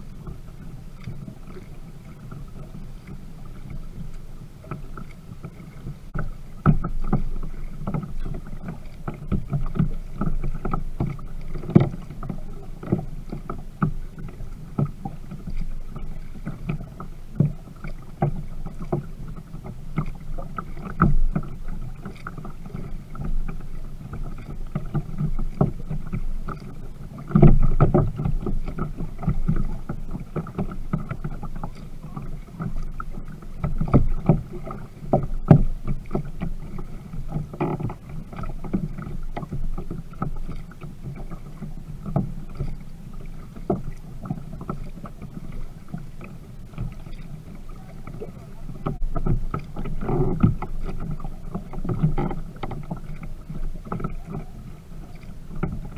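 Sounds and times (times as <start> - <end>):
knocks and clicks on hull: 0.0 - 55.9
water slapping against kayak hull: 0.0 - 55.9.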